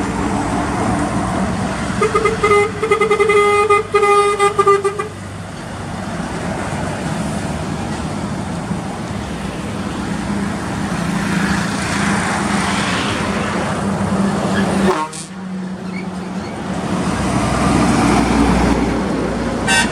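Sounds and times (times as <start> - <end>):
truck engine humming: 0.0 - 19.9
tyre and road noise: 0.0 - 19.9.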